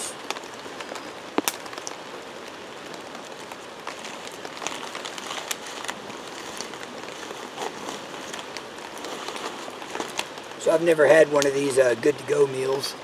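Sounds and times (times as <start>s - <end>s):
light crackles and clicks: 0.0s - 12.8s
creek flowing over stones: 0.0s - 13.0s.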